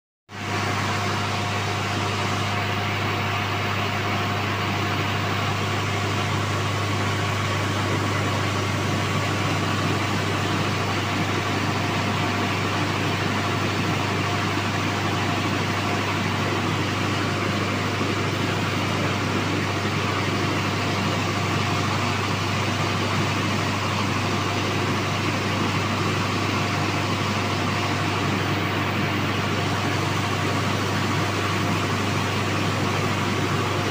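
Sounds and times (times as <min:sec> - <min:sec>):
rice milling machine whirring: 0:00.3 - 0:33.9.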